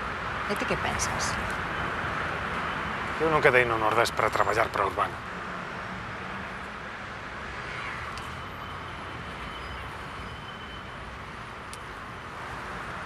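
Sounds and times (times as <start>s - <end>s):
distant city traffic hum: 0.0s - 13.0s.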